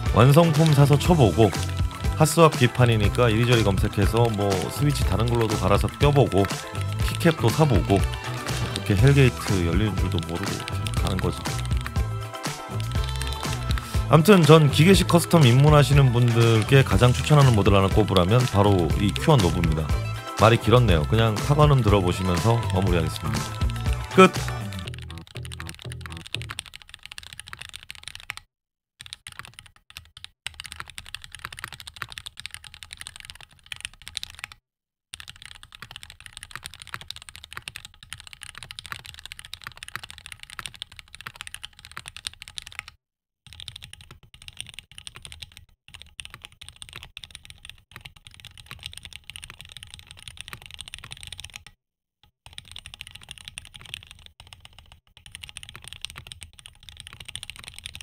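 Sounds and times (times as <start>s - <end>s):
fast mechanical keyboard typing: 0.0s - 28.4s, 29.0s - 34.6s, 35.2s - 51.8s, 52.5s - 58.0s.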